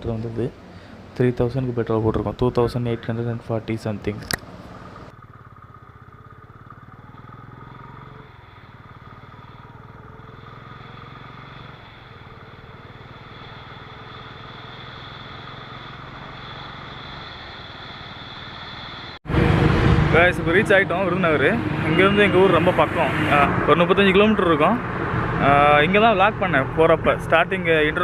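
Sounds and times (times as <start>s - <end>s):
road and wind noise: 0.0s - 28.0s
motorcycle engine running: 4.3s - 28.0s.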